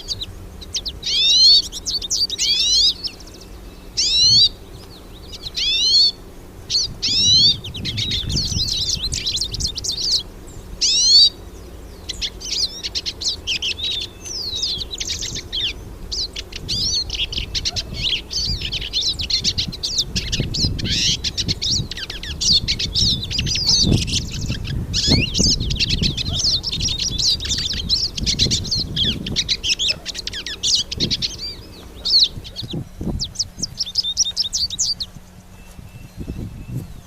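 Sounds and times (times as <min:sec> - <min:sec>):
siskins twittering and warbling: 0:00.0 - 0:37.0.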